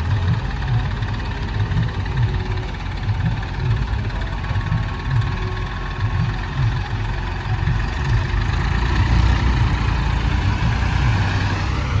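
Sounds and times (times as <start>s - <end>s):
diesel engine running at low revs: 0.0s - 12.0s.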